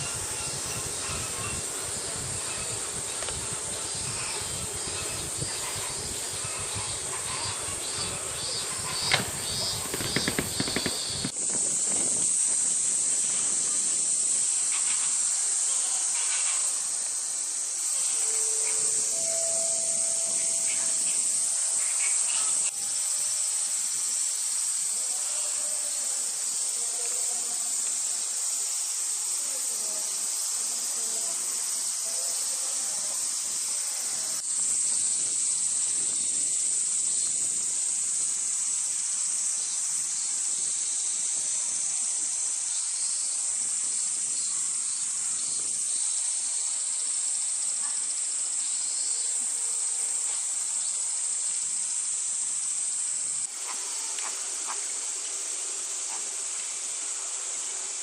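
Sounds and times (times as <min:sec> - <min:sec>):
cicadas singing: 0:00.0 - 0:58.0.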